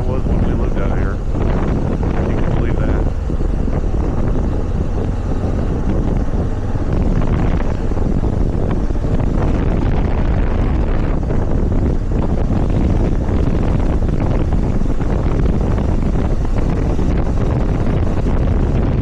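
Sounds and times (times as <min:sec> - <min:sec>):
motorcycle engine running: 0:00.0 - 0:19.0
wind rush across microphone: 0:00.0 - 0:19.0.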